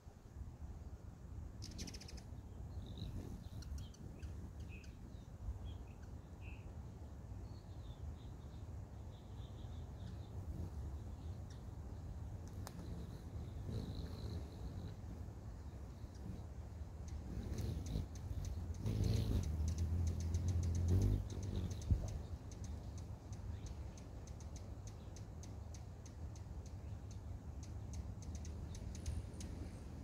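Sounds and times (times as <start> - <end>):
low outdoor rumble: 0.0 - 30.0
small birds chirping: 1.5 - 30.0.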